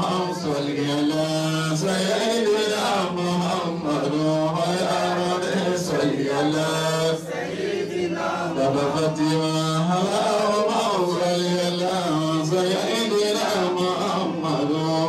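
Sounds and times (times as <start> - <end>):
man chanting into microphone: 0.0 - 7.3, 8.5 - 15.0.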